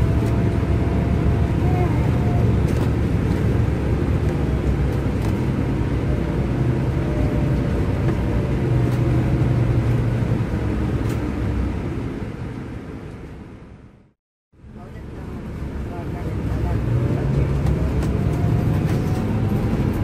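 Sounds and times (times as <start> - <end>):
coach engine drone: 0.0 - 20.0
road noise: 0.0 - 20.0.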